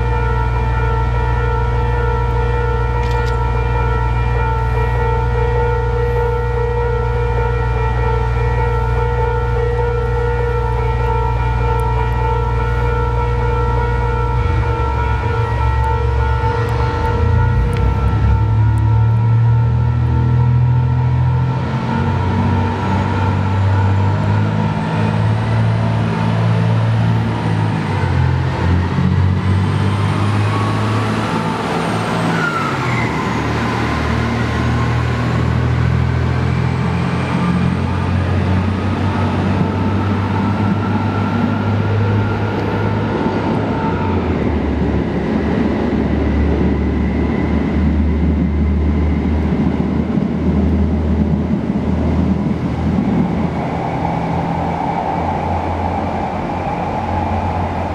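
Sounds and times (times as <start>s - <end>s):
diesel railcar engine drone: 0.0s - 57.9s.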